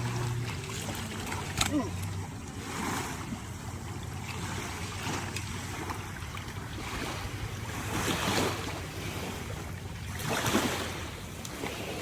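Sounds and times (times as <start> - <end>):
water washing at shoreline: 0.0 - 12.0.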